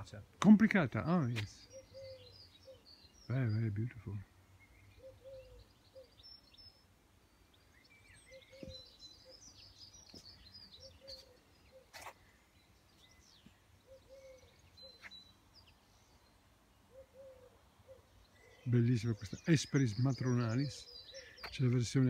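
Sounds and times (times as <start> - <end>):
birds chirping and whistling: 1.0 - 22.0
low bird call: 1.2 - 3.6, 4.6 - 6.8, 7.8 - 12.4, 13.0 - 21.7.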